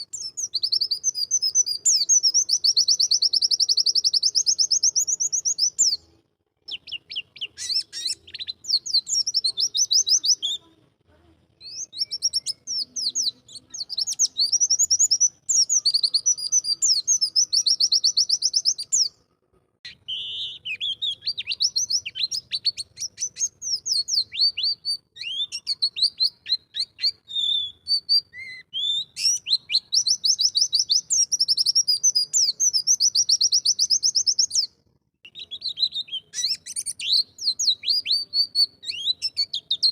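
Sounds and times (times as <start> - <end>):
bird twittering song: 0.0 - 10.7, 11.6 - 19.3, 19.9 - 39.9.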